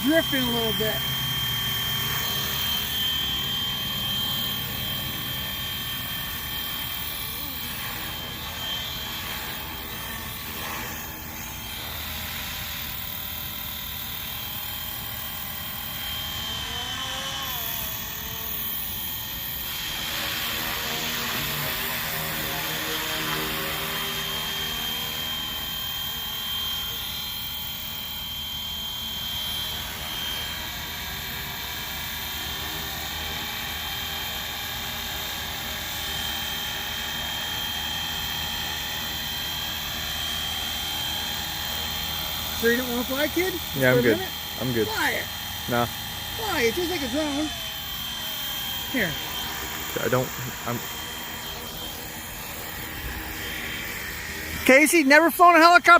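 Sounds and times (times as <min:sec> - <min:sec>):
high electric motor whine: 0:00.0 - 0:55.9.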